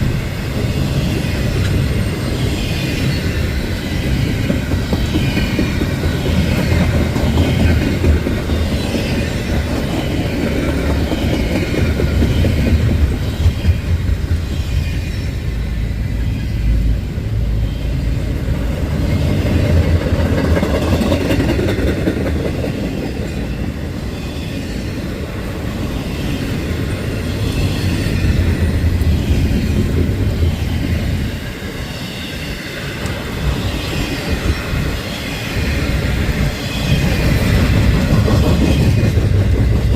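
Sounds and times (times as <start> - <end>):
wheels clacking over rail joints: 0.0 - 15.5, 17.8 - 39.9
freight train wheels rumbling: 0.0 - 39.9.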